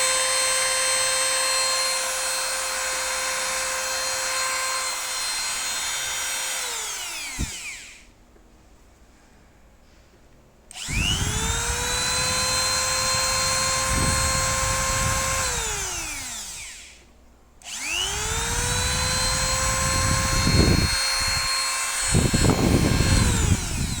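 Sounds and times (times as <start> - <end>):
rough grinding bursts: 0.0 - 8.0, 10.8 - 16.9, 17.7 - 24.0
mini grinder whining: 0.0 - 8.1, 10.7 - 17.0, 17.6 - 24.0.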